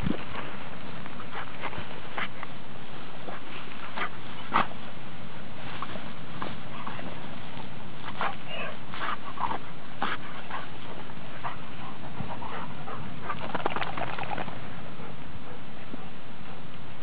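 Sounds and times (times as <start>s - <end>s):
dog rolling in dry brush: 0.0s - 14.7s
steady hiss: 0.0s - 17.0s.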